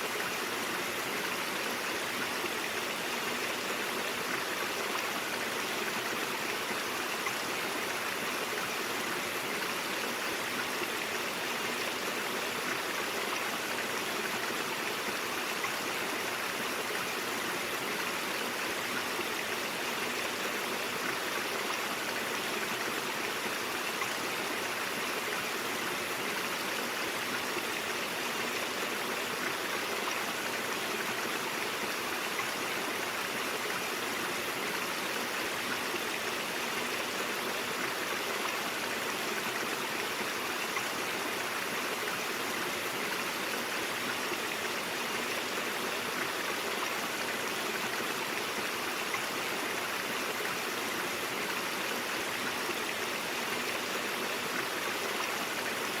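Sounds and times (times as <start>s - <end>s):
brook water running over stones: 0.0s - 56.0s.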